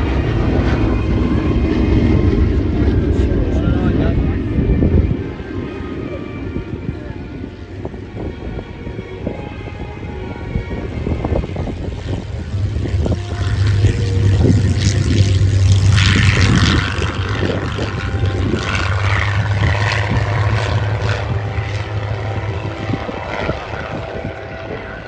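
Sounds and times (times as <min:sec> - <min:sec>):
propeller aircraft engine drone: 0:00.0 - 0:25.0.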